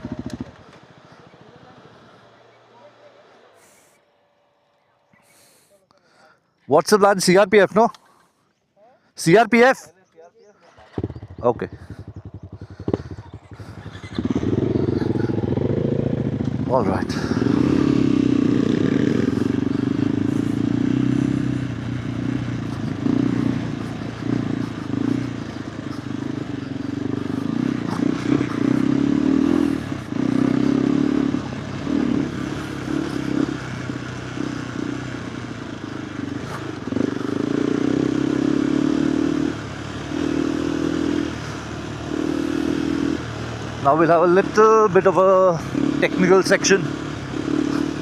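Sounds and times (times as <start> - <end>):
motorcycle engine revving: 0.0 - 5.4, 10.6 - 48.0.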